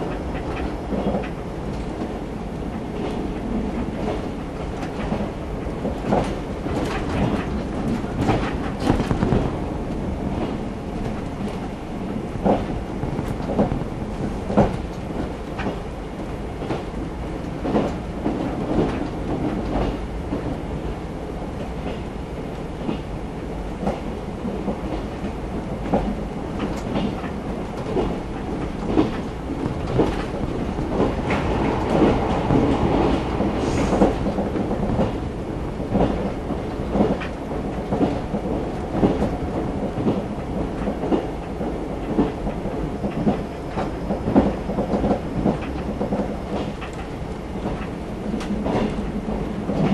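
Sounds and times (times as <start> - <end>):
train rumble inside passenger car: 0.0 - 49.9.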